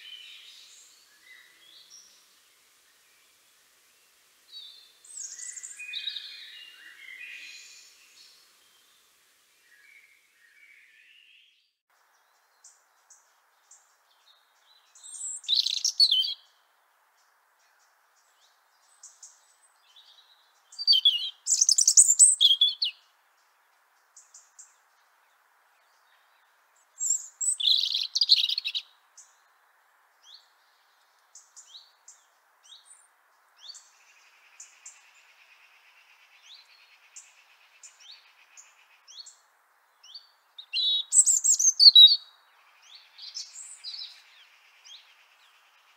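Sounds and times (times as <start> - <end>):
robin singing: 4.5 - 9.0, 9.6 - 29.6, 30.2 - 45.9.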